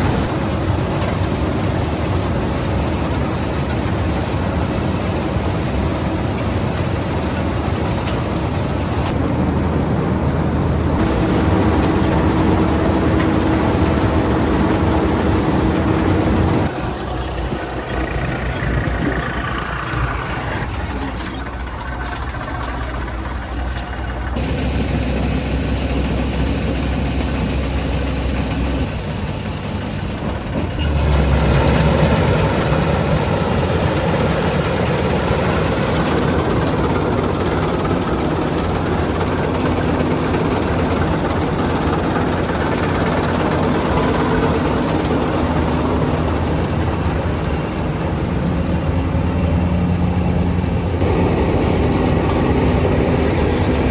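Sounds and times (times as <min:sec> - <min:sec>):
diesel engine of farm machinery: 0:00.0 - 0:53.9.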